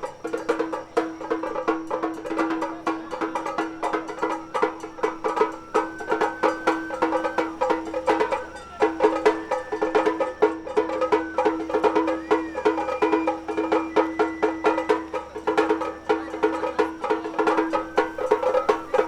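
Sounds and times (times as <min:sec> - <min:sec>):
high bamboo flute: 0:00.0 - 0:19.0
rapid drum strikes: 0:00.0 - 0:19.0.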